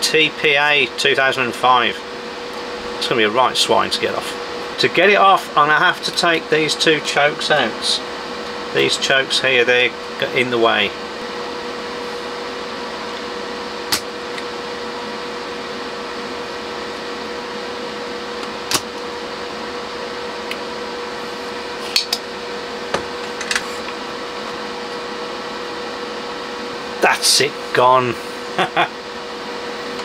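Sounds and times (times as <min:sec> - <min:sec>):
hot air gun fan whirring: 0:00.0 - 0:30.0.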